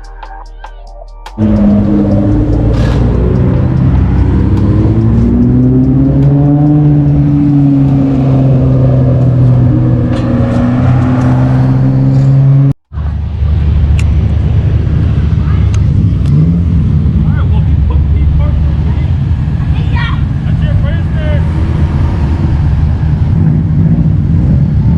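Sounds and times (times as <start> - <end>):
car engine running loudly: 1.4 - 24.9.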